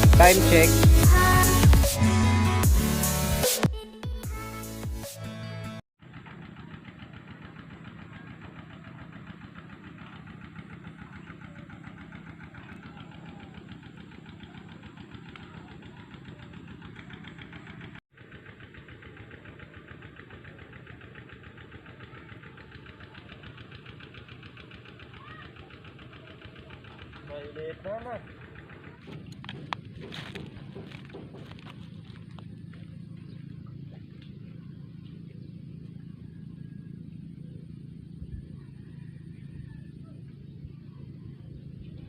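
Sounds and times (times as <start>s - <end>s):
small engine running: 0.0s - 3.6s, 6.0s - 42.0s.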